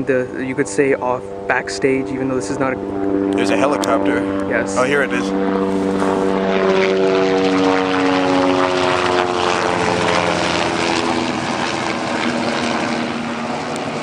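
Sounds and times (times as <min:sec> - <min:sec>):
helicopter passing overhead: 0:00.0 - 0:14.0.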